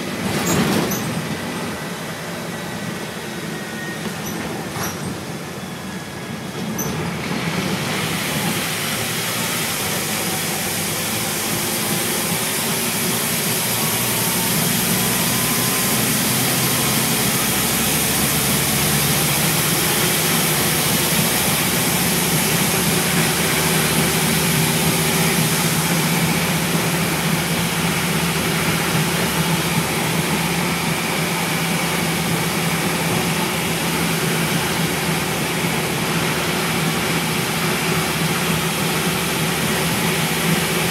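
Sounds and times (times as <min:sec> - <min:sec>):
bus diesel engine drone: 0:00.0 - 0:40.9.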